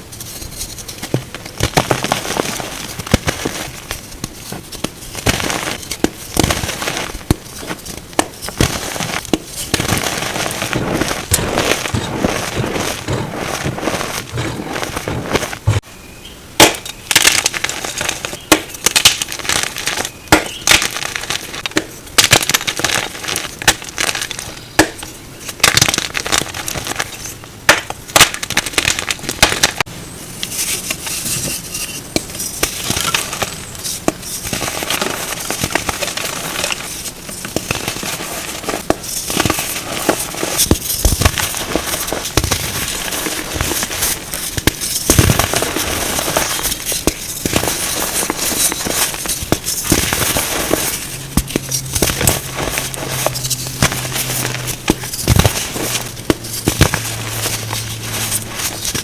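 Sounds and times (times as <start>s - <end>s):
chalk being crushed: 0.0s - 15.8s, 16.6s - 59.0s.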